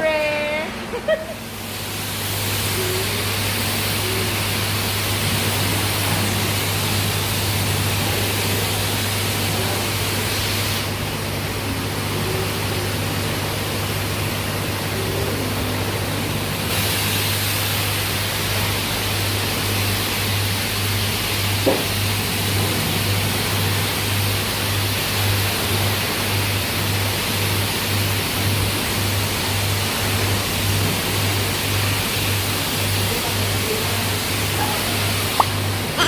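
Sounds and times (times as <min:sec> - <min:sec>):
high-pressure water spray hissing: 0:01.4 - 0:36.0.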